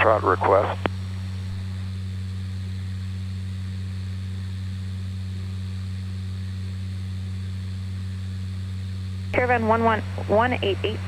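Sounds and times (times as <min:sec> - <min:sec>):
propeller engine drone: 0:00.0 - 0:11.0.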